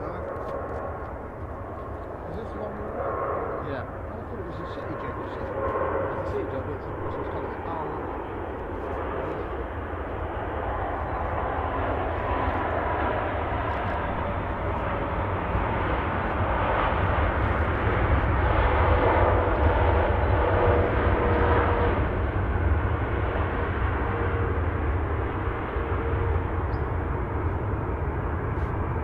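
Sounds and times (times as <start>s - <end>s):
jet airliner engines passing by: 0.0s - 29.0s.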